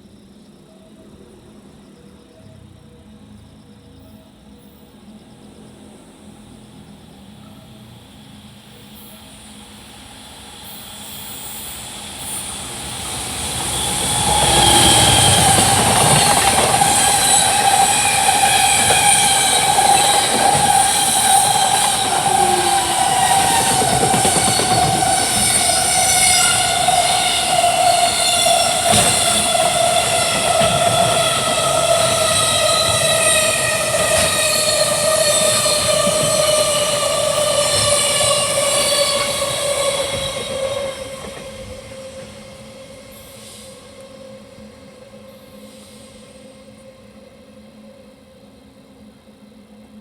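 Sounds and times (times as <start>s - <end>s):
freight train passing: 0.0s - 50.0s.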